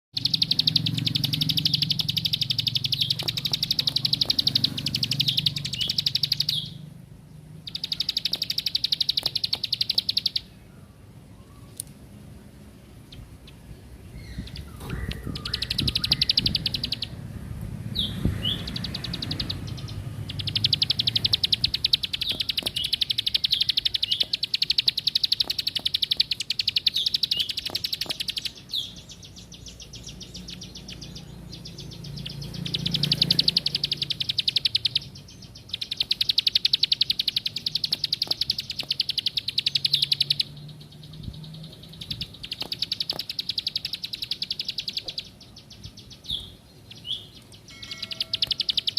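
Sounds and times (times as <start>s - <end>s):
bird singing rapid trills: 0.1s - 11.9s, 12.9s - 48.9s.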